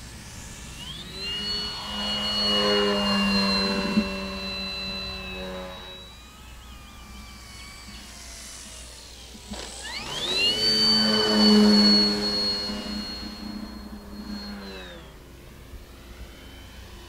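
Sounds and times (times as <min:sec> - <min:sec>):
electric motor whine: 0:00.0 - 0:17.0
propeller drone: 0:00.0 - 0:17.0.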